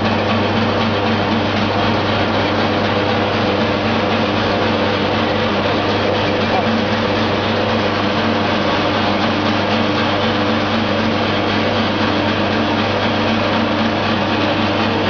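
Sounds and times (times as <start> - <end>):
brushes whirring in bottles: 0.0 - 15.0
low motor hum: 0.0 - 15.0.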